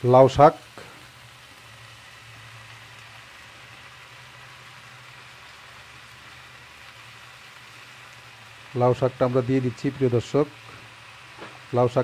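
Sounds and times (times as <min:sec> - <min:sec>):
frying in oil sizzling: 0:00.0 - 0:12.0.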